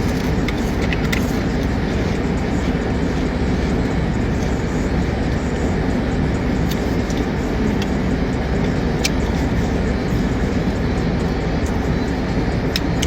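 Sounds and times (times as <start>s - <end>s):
vehicle rumble and hiss: 0.0s - 13.0s.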